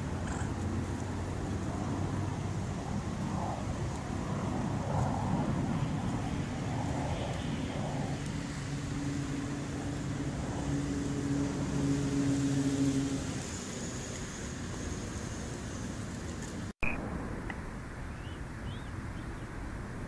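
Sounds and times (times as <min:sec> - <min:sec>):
traffic rumble: 0:00.0 - 0:20.0
vehicle engine hum: 0:00.0 - 0:20.0.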